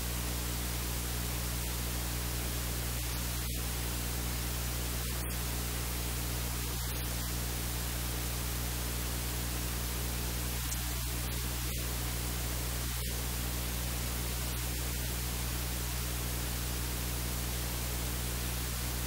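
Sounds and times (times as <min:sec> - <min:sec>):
low electrical hum: 0:00.0 - 0:19.0
steady hiss: 0:00.0 - 0:19.0.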